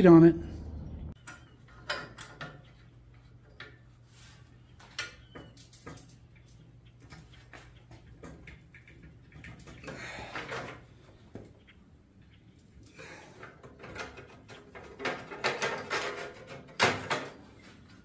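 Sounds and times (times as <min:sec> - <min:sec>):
steel creaking and clanking under strain: 0:01.2 - 0:11.8, 0:12.8 - 0:17.6.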